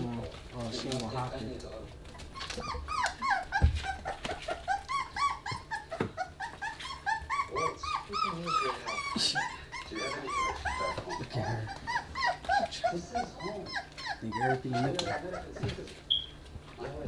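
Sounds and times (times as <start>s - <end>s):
puppies whimpering and squealing: 0.5s - 17.0s.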